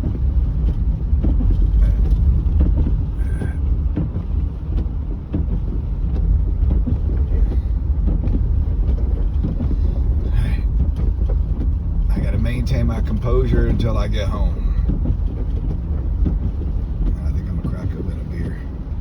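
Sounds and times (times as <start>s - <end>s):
car cabin road and engine rumble: 0.0s - 19.0s.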